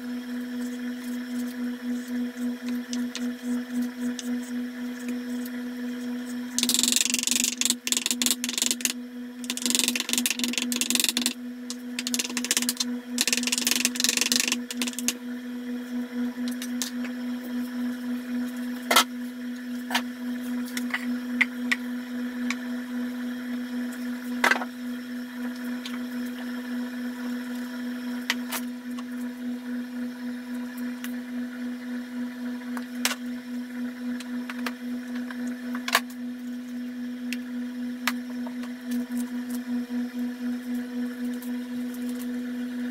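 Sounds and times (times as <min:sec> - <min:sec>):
pitched hum: 0:00.0 - 0:42.9.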